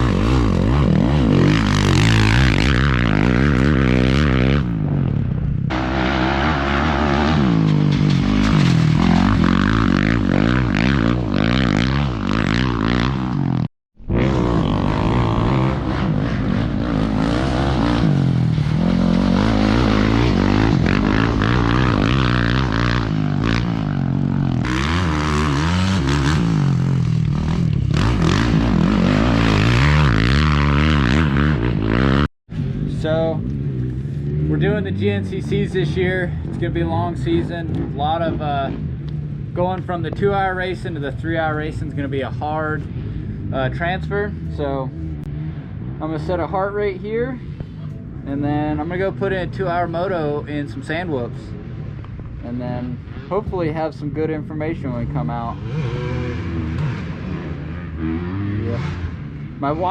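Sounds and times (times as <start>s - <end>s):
dirt bike engine revving: 0.0s - 46.8s, 54.6s - 59.9s.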